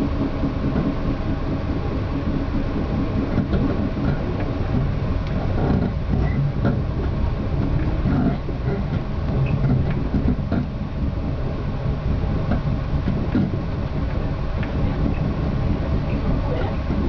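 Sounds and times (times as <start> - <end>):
train wheels rumbling on rail: 0.0 - 17.0
wheels clicking over track: 0.2 - 17.0.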